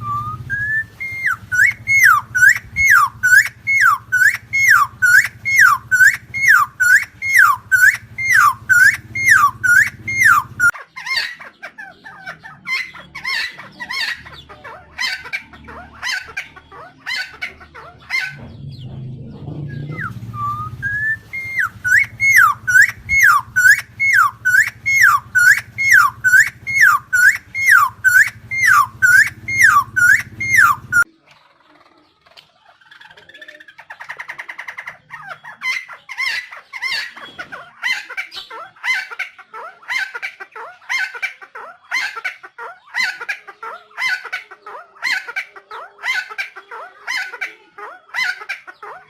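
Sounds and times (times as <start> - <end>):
friarbird calling: 0.0 - 19.0, 19.6 - 49.0.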